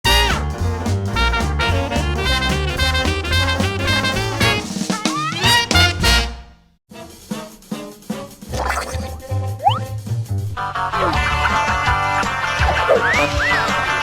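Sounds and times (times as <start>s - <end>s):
swing jazz with brass and drums: 0.0s - 14.0s.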